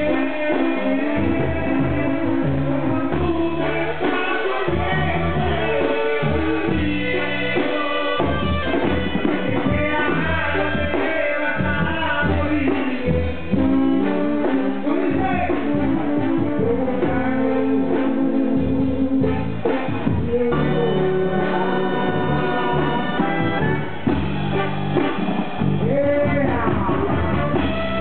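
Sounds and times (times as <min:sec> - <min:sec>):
brass band music: 0:00.0 - 0:28.0
trumpets and trombones melody: 0:00.0 - 0:28.0
pulsing bass line: 0:01.1 - 0:28.0.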